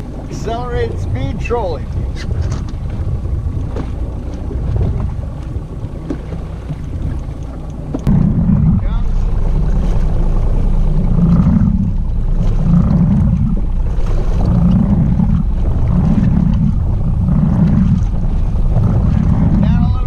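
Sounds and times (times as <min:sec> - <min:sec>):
outboard boat engine rumble: 0:00.0 - 0:20.0
wind buffeting microphone: 0:00.0 - 0:20.0.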